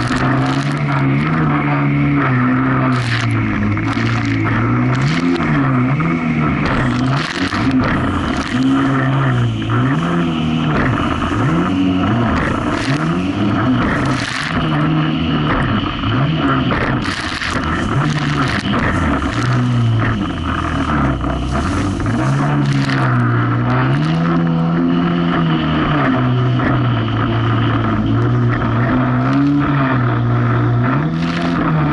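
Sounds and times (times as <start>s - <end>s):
water splashing: 0.0s - 31.8s
jet ski engine running: 0.0s - 31.9s
wind noise: 0.0s - 31.9s.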